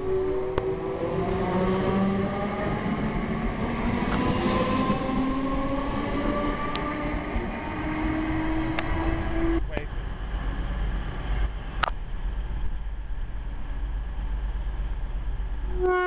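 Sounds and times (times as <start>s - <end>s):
train running on track: 0.0s - 16.0s
train traction motors whining: 0.0s - 16.0s.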